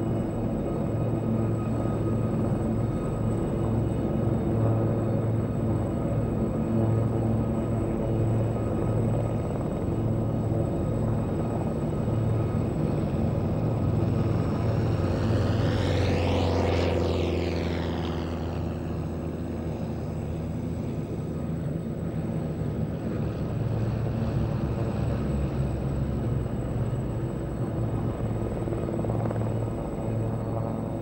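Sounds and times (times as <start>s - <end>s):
helicopter rotors beating: 0.0s - 31.0s.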